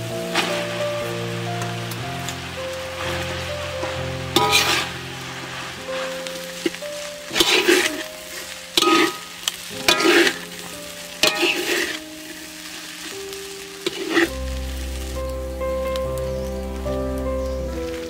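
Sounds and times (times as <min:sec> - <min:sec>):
spatula scraping sizzling wok: 0:00.0 - 0:15.6.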